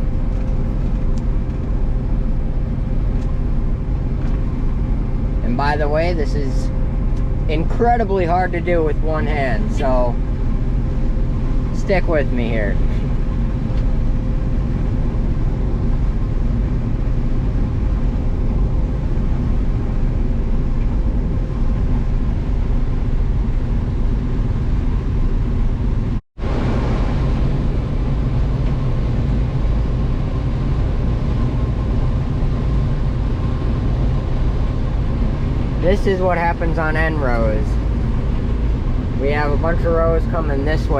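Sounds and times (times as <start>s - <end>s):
combine harvester engine hum: 0.0s - 40.9s
harvester mechanical roar: 0.0s - 40.9s.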